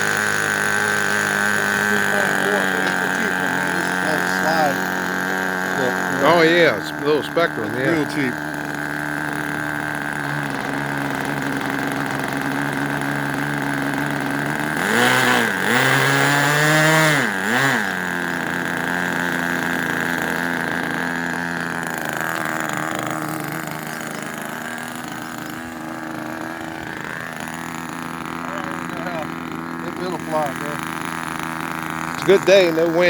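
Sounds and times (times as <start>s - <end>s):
model airplane engine idling and revving: 0.0s - 33.0s.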